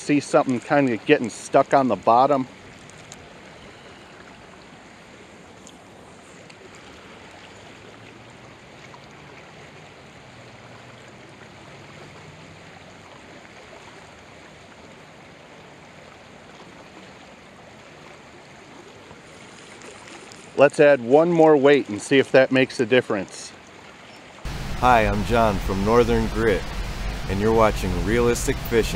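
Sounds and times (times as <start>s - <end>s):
creek water rushing: 0.0s - 22.4s, 23.1s - 28.9s.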